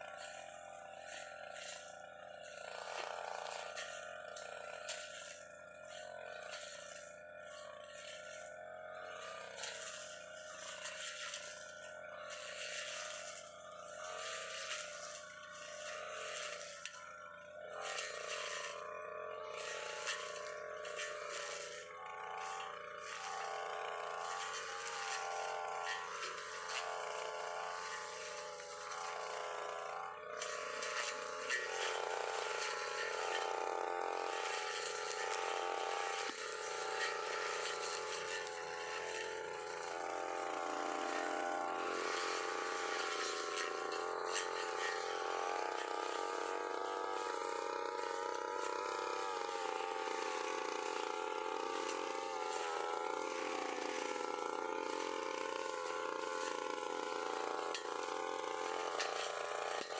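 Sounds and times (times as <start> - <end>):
brush cutter engine buzzing: 0.0 - 59.9.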